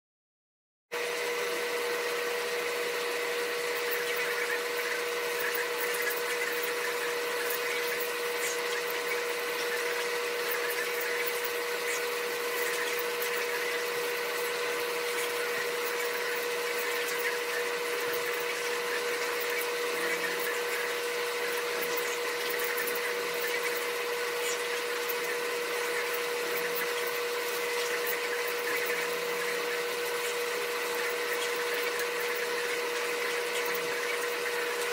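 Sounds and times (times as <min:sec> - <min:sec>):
motor humming: 0:00.9 - 0:34.9.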